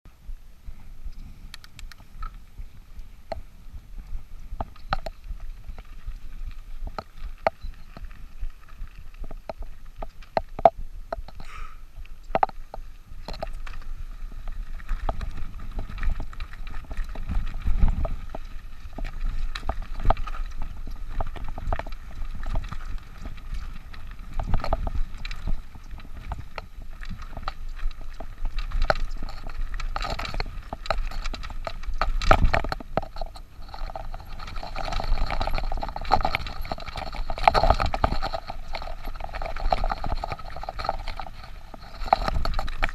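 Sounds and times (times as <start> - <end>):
bike rattling clicks and knocks: 1.2 - 42.9.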